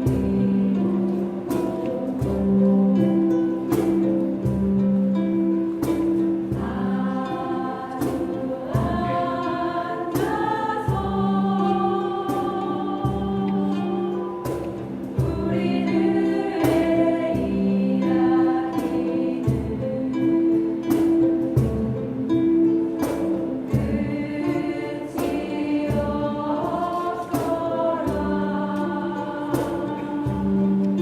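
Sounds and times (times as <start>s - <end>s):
group of people singing: 0.0s - 4.6s, 5.9s - 22.2s, 23.0s - 31.0s.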